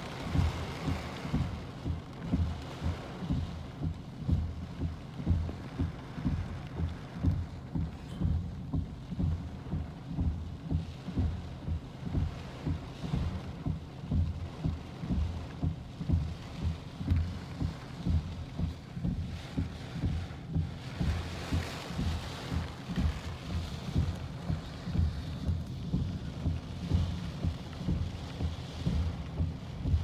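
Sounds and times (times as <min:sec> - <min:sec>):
steady low hum: 0:00.0 - 0:30.0
wind buffeting microphone: 0:00.0 - 0:30.0.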